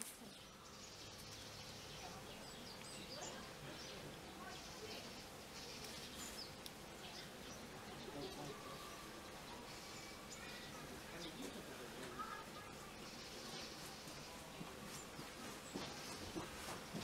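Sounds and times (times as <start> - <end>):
faint far-off murmur: 0.0 - 17.0.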